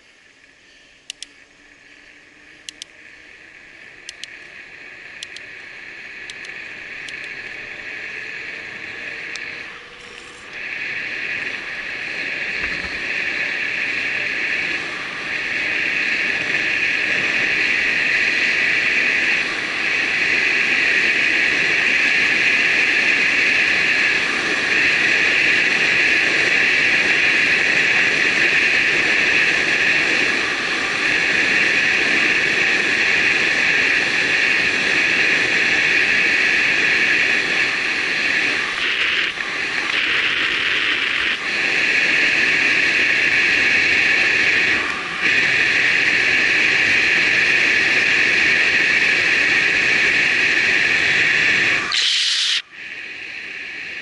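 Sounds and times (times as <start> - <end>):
bicycle road noise: 0.0 - 54.0
steady high-pitched buzz: 0.0 - 54.0
wind rush on microphone: 4.5 - 52.1.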